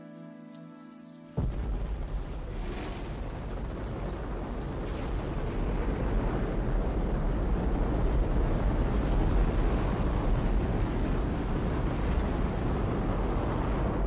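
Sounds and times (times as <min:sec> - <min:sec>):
rocket engines rumbling: 0:01.4 - 0:14.0.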